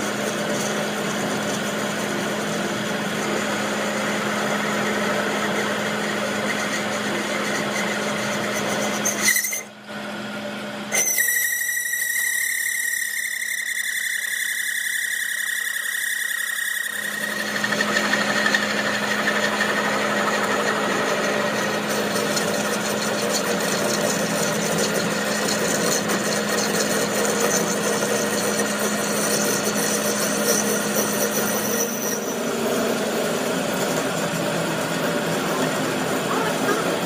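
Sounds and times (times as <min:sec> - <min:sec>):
machinery running: 0:00.0 - 0:11.0, 0:16.9 - 0:37.0.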